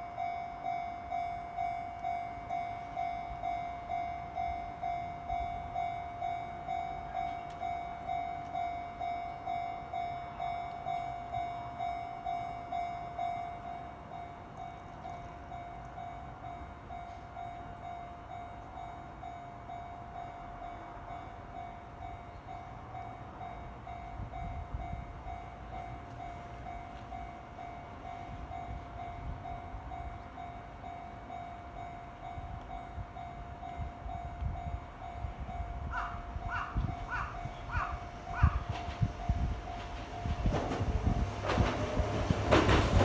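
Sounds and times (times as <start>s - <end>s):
level-crossing warning bell: 0.0s - 43.0s
train rumbling past: 0.0s - 43.0s.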